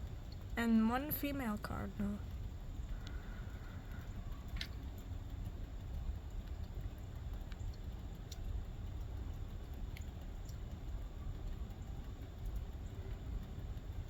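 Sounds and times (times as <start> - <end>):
low background rumble: 0.0 - 14.0
faint short ticks: 2.2 - 14.0.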